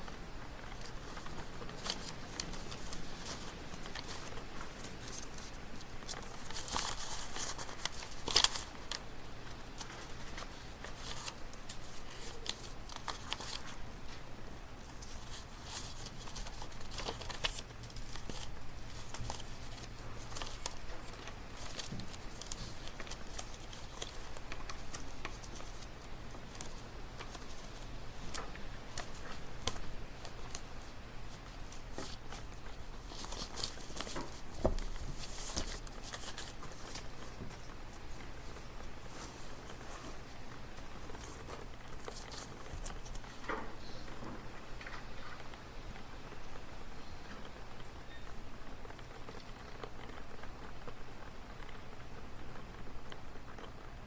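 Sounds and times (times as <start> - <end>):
paper rustling: 0.0 - 45.6.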